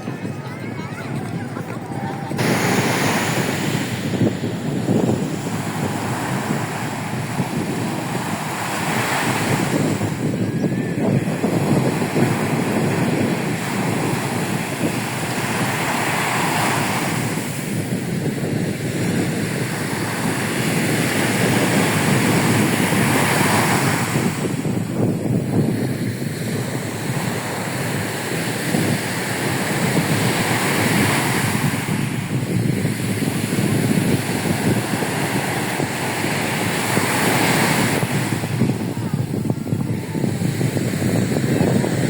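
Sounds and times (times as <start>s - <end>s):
surf breaking on beach: 0.0s - 42.0s
wind buffeting microphone: 0.0s - 42.0s.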